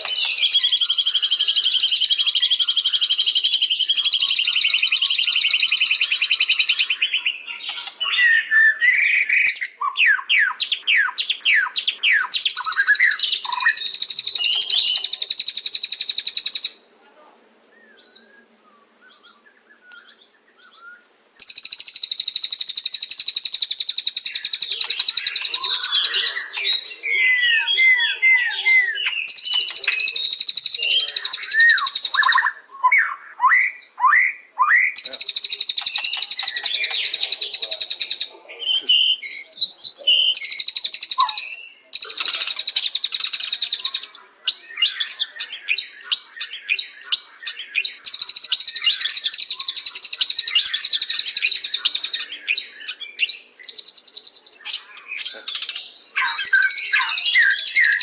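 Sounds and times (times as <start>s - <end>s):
faint bird chirps: 0.0s - 58.0s.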